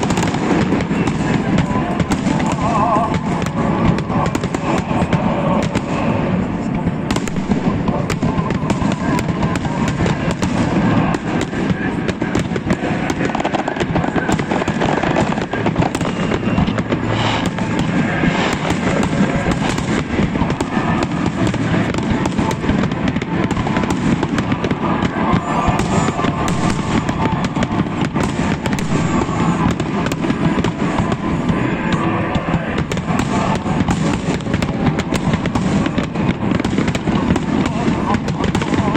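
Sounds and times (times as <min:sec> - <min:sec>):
fireworks cracks and bangs: 0:00.0 - 0:38.9.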